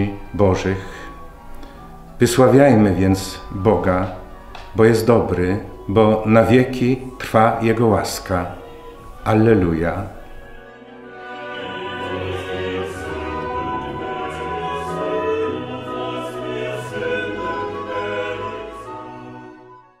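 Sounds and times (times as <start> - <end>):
choir singing sustained chords: 0.0 - 20.0
instrumental backing: 0.0 - 20.0.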